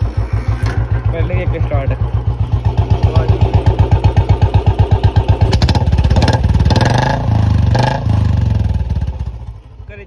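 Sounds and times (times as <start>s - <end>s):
motorcycle engine idling and revving: 0.0s - 10.0s.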